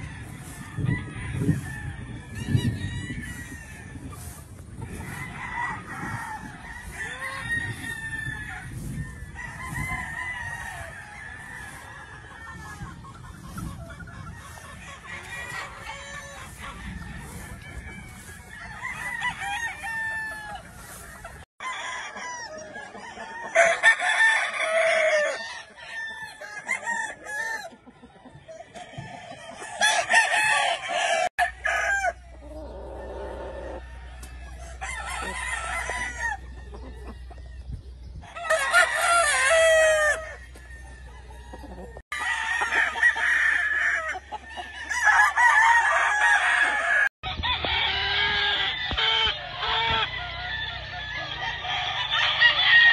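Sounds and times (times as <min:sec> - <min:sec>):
roosters crowing: 0:00.0 - 0:52.9.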